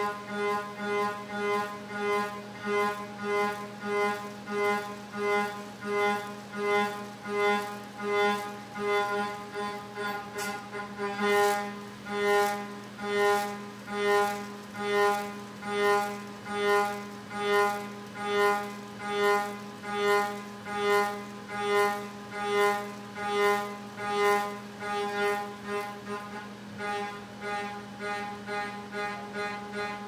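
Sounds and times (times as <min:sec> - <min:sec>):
mill spindle hum: 0:00.0 - 0:30.0.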